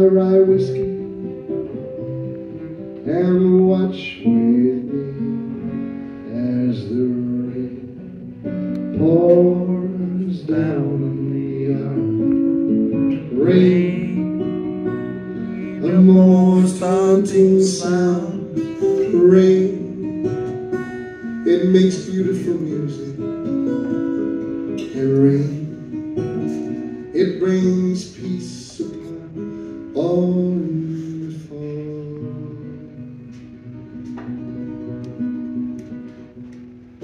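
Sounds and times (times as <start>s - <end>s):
man singing into a microphone: 0.0s - 1.3s, 3.0s - 23.5s, 24.7s - 33.3s
acoustic guitar: 0.0s - 37.0s.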